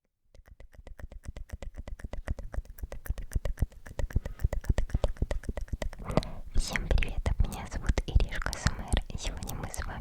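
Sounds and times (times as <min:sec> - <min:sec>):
lip and tongue clicks: 0:00.3 - 0:10.0.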